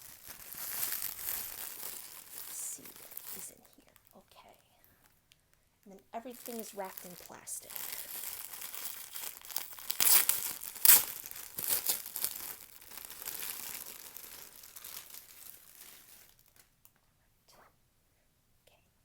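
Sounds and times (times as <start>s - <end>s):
plastic wrapping crinkling: 0.0s - 5.2s, 5.8s - 16.9s.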